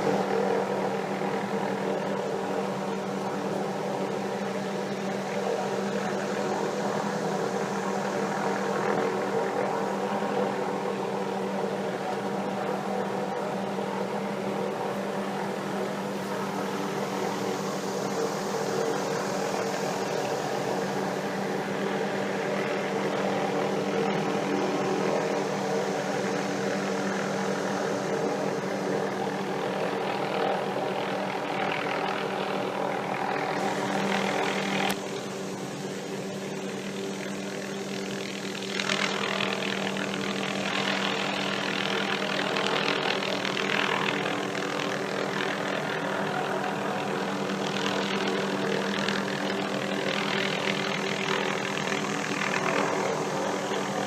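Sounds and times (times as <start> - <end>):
helicopter droning: 0.0 - 54.0.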